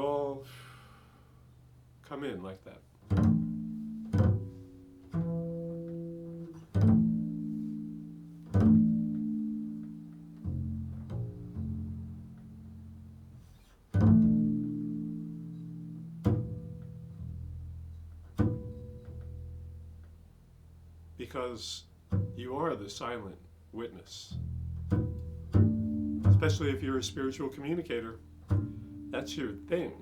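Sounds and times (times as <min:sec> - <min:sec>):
low plucked string notes: 0:03.1 - 0:30.0.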